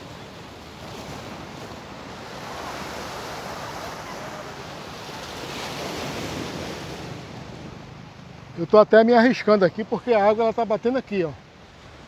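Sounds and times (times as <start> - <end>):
surf washing over rocks: 0.0 - 12.0.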